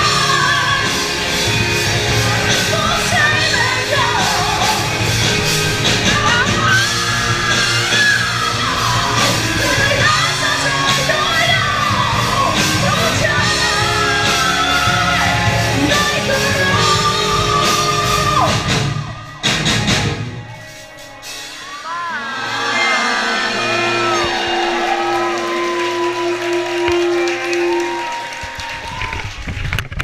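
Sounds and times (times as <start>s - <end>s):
live rock band playing: 0.0s - 28.8s.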